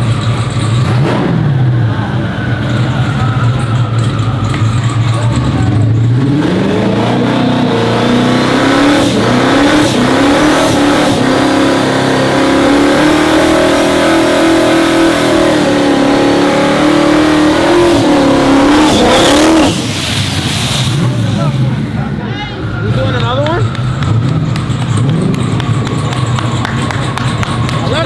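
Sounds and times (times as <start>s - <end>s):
car engine accelerating hard: 0.0s - 28.0s.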